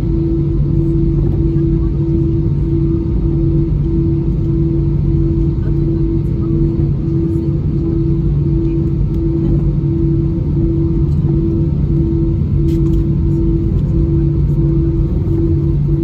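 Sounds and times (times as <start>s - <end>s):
airliner engine drone: 0.0s - 16.0s
pulsing humming tone: 0.0s - 16.0s.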